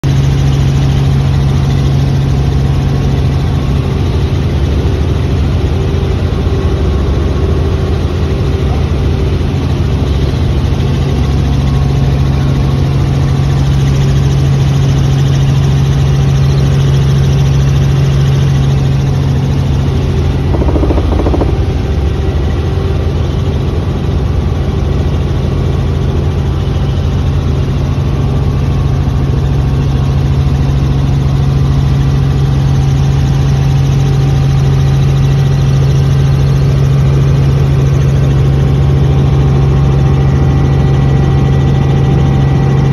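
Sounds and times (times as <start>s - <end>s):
helicopter engine and rotors drone: 0.0s - 42.9s.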